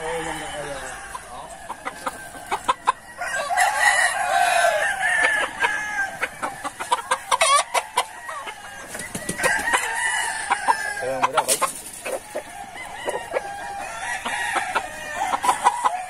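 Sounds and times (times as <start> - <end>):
hens clucking: 0.0 - 16.0
roosters crowing: 0.0 - 16.0.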